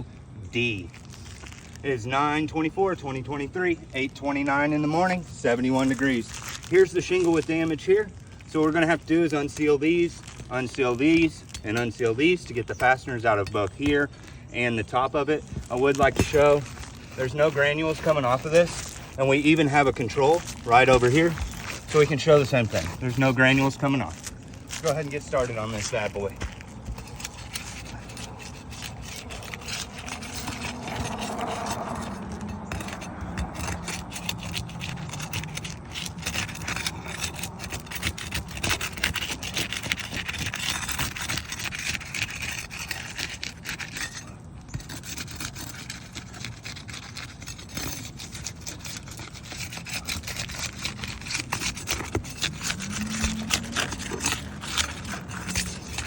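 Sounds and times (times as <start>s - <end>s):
tool scraping under shingles: 0.2s - 56.0s
shingles clicking and crackling: 3.0s - 56.0s.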